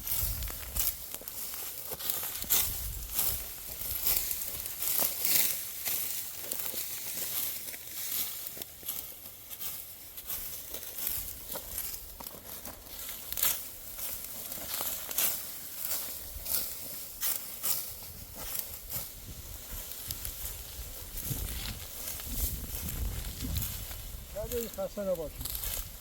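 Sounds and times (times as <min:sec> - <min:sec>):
sickle cutting dry wheat stalks: 0:00.0 - 0:26.0.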